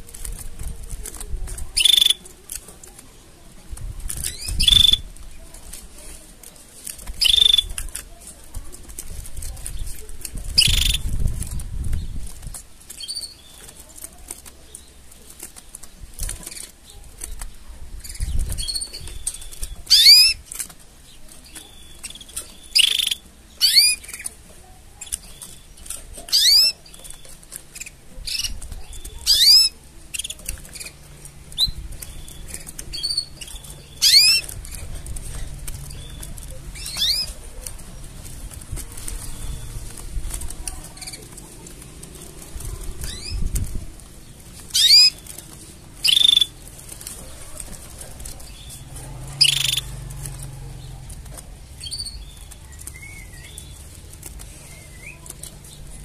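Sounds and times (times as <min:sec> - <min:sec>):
canaries calling: 0:00.0 - 0:56.0
wing fluttering: 0:00.0 - 0:56.0.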